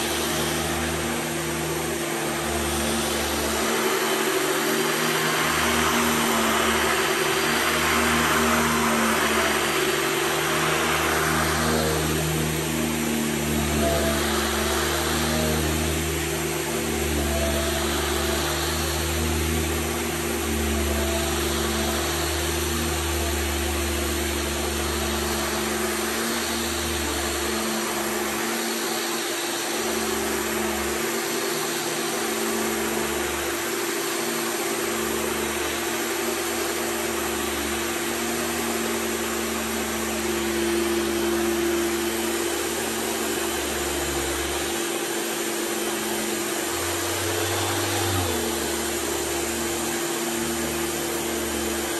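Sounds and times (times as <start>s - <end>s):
vacuum cleaner running: 0.0s - 51.9s.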